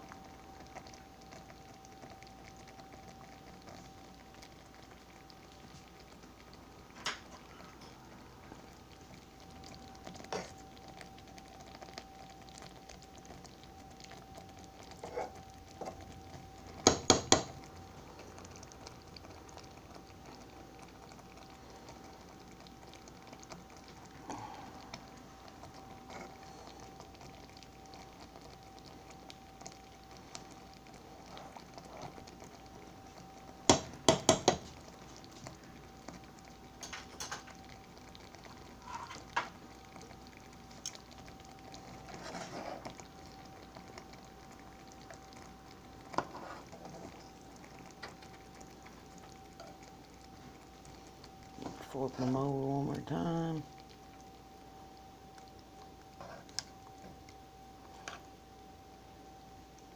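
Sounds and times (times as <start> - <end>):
sauce bubbling and popping: 0.0 - 59.9
steady faint hum: 0.0 - 59.9.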